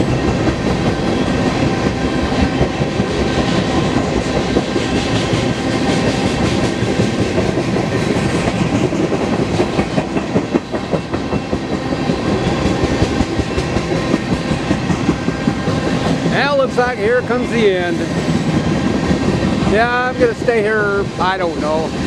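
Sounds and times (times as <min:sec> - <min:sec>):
train wheels clacking on rails: 0:00.0 - 0:22.0.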